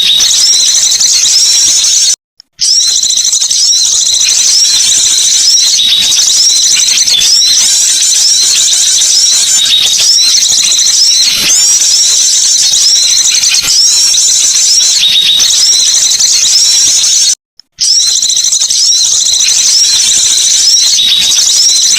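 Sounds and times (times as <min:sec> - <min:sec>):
songbirds chirping and twittering: 0:00.0 - 0:21.9.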